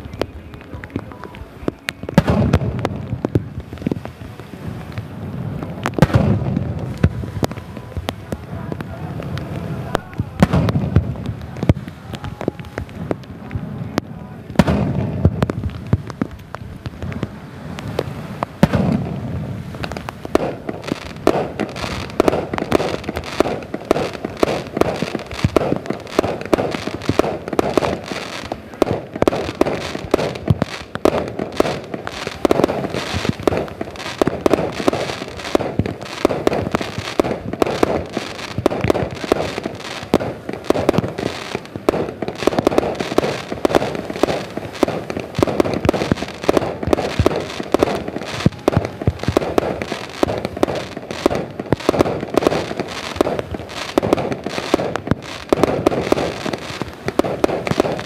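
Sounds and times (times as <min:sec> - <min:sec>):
fireworks booming: 0:00.0 - 0:58.0
rapid firework bangs and crackling: 0:00.0 - 0:58.0.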